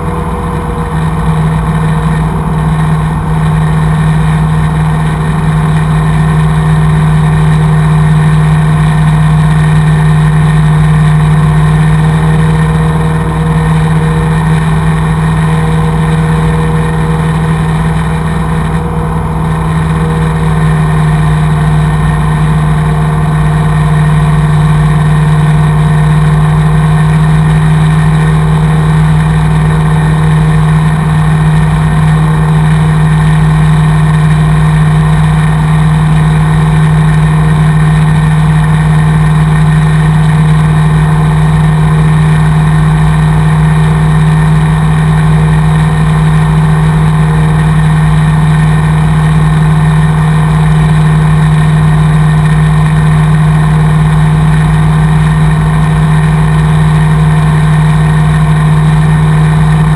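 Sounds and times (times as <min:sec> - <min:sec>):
airplane engine droning in cabin: 0:00.0 - 0:59.9.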